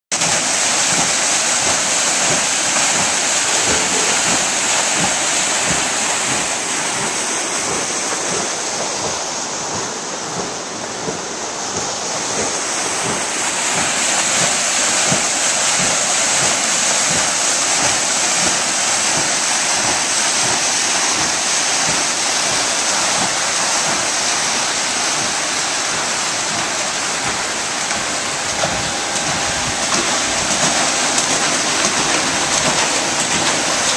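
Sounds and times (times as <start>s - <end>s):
water rushing over weir: 0.1s - 33.9s.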